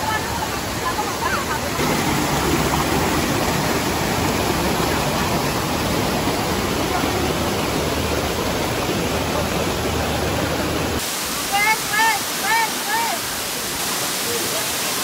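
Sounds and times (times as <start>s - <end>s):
waterfall rushing over boulders: 0.0s - 15.0s.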